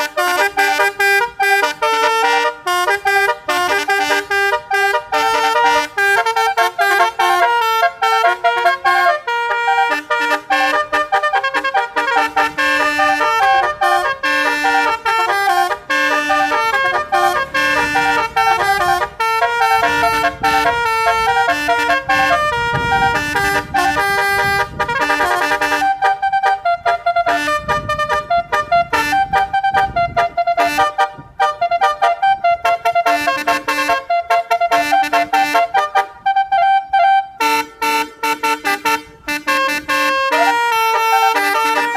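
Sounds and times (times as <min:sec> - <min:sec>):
multi-trumpet vehicle horn melody: 0:00.0 - 0:41.9.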